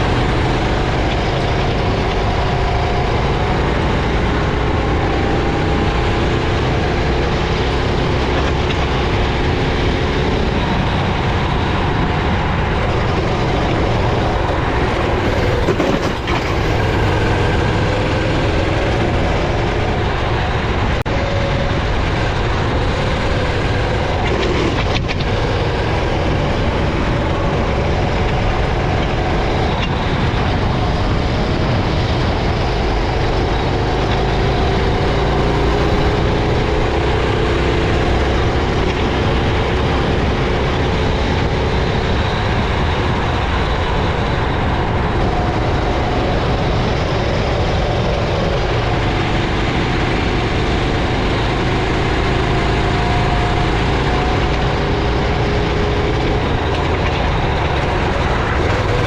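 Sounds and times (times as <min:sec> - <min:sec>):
kart engine running hard: 0:00.0 - 0:59.0
wind and road noise: 0:00.0 - 0:59.0.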